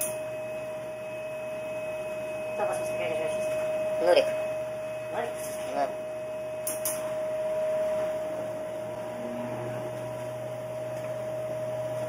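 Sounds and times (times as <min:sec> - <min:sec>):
constant machinery whine: 0:00.0 - 0:12.0.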